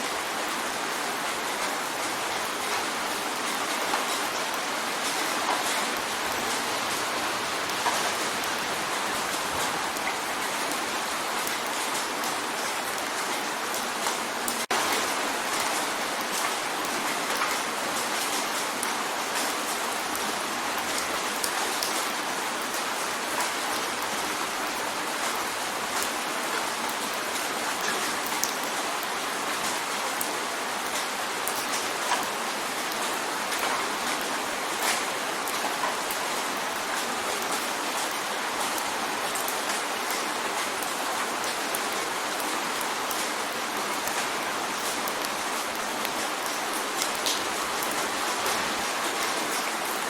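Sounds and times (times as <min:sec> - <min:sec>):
rain drumming on a window: 0:00.0 - 0:50.0.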